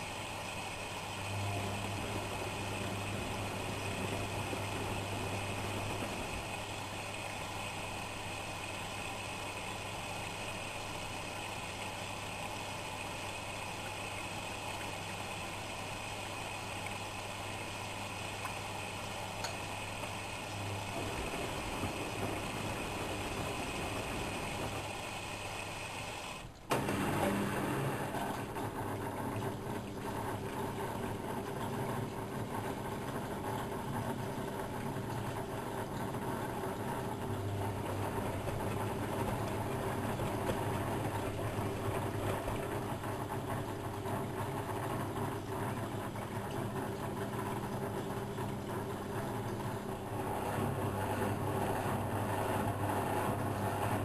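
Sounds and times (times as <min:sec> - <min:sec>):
washing machine humming: 0:00.0 - 0:54.0.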